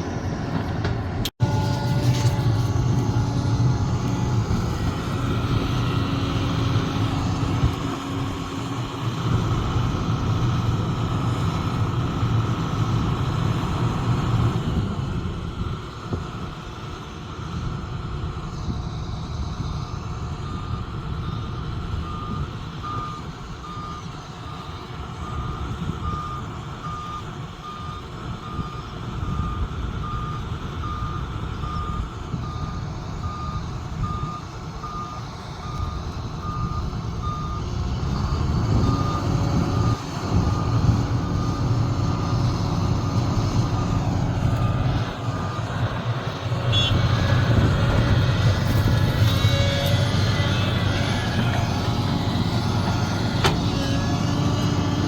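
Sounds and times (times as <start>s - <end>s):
heavy diesel engine drone: 0.0s - 55.0s.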